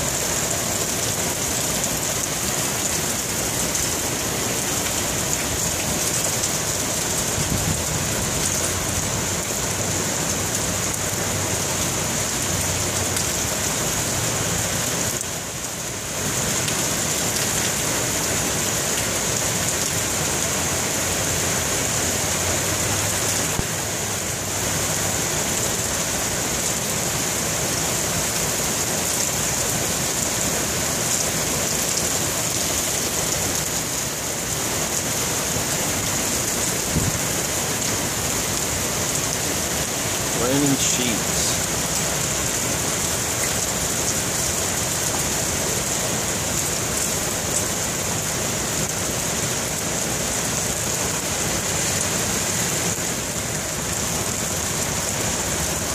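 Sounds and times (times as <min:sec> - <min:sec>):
heavy rain on pavement and cars: 0:00.0 - 0:55.9.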